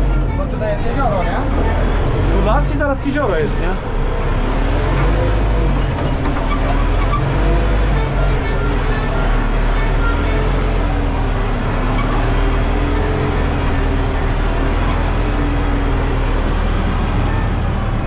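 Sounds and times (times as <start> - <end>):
tractor diesel engine droning: 0.0 - 18.0.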